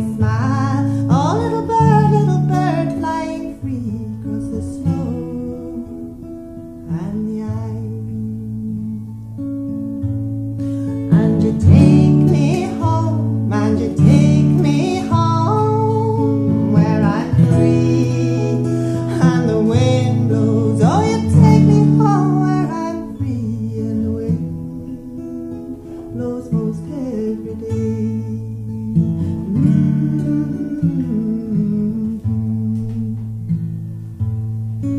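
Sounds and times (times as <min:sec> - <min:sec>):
woman singing: 0:00.0 - 0:09.4, 0:10.8 - 0:33.5
acoustic guitar: 0:00.0 - 0:34.9.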